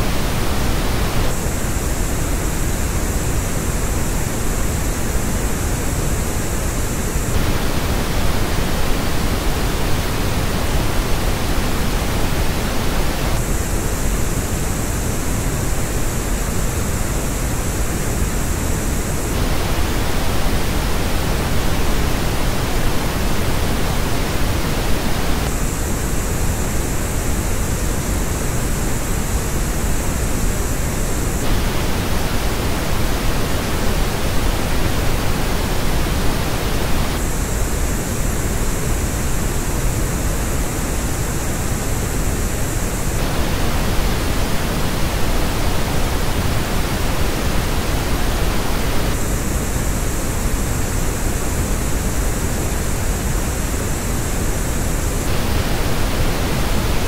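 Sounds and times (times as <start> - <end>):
hissy filtered noise: 0.0 - 57.0
pink noise test signal: 0.0 - 57.0.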